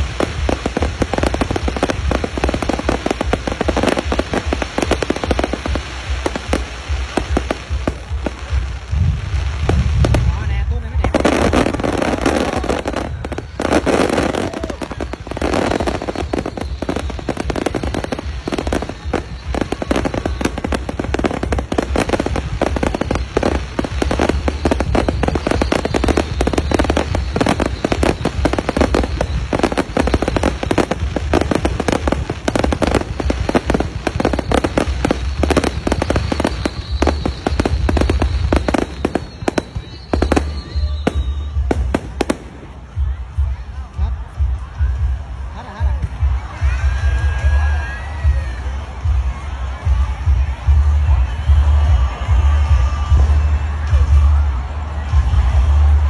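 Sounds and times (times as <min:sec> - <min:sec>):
deep fireworks booms: 0:00.0 - 0:56.0
fireworks bangs and crackles: 0:00.0 - 0:56.0.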